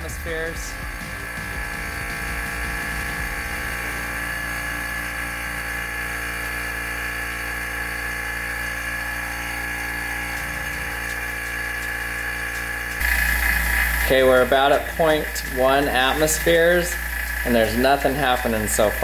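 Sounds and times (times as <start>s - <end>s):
electric vacuum pump running: 0.0s - 19.0s.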